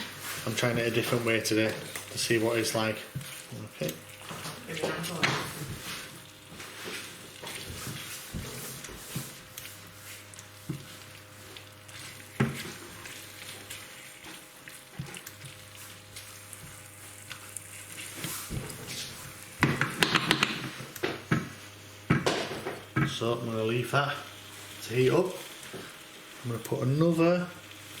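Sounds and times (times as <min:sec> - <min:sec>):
chicken sizzling in a pan: 0:00.0 - 0:28.0.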